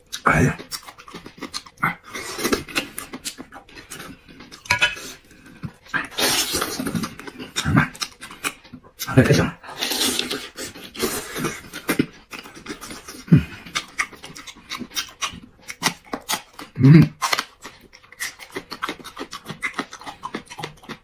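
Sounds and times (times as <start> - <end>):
wet chewing: 0.0 - 21.0.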